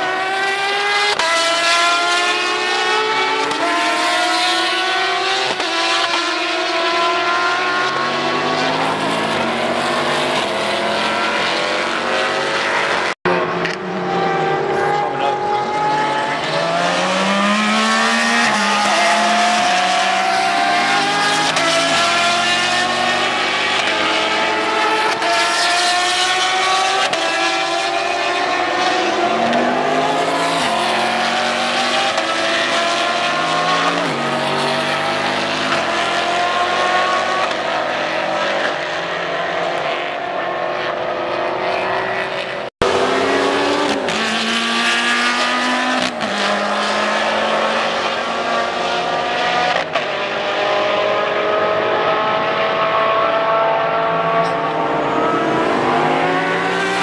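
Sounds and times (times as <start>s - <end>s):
race car engines accelerating: 0.0s - 57.0s.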